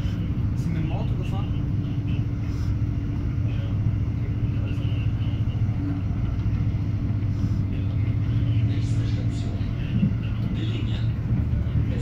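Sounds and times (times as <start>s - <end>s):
constant hum: 0.0s - 12.0s
train wheels rumbling on track: 0.0s - 12.0s.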